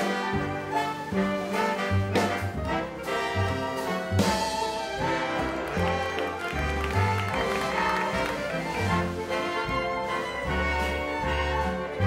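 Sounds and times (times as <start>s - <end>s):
instrumental band music: 0.0s - 12.0s.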